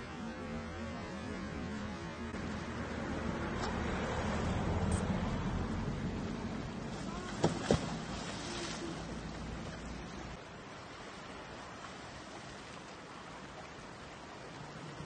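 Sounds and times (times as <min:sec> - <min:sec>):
wind: 0:00.0 - 0:15.0
fast river current rushing: 0:02.0 - 0:15.0.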